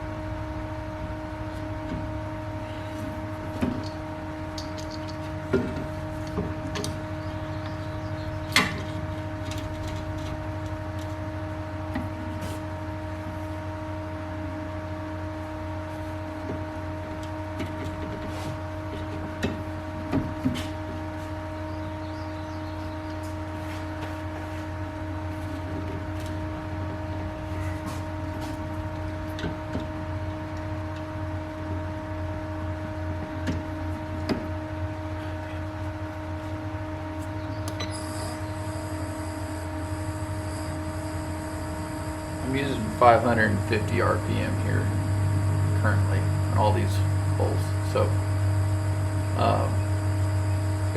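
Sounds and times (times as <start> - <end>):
drill press motor hum and whine: 0.0 - 50.9.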